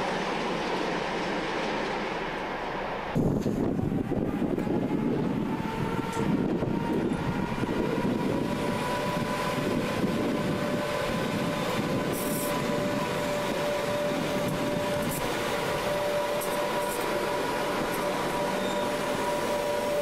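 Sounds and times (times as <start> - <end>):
locomotive whine: 0.0 - 20.0.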